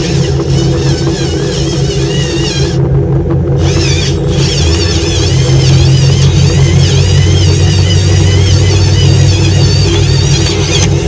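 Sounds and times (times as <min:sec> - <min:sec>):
cordless drill boring into plastic: 0:00.0 - 0:02.8, 0:03.6 - 0:11.0.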